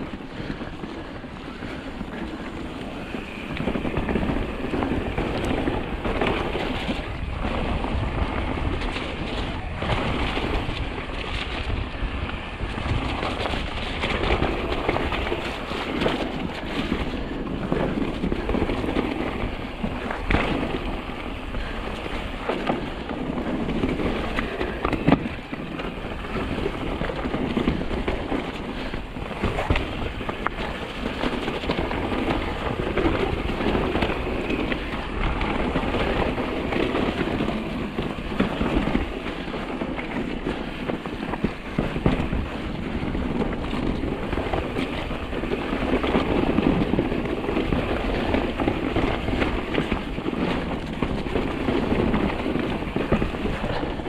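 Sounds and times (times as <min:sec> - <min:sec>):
bike tyres rumbling over dirt: 0:00.0 - 0:54.0
wind on microphone: 0:00.0 - 0:54.0.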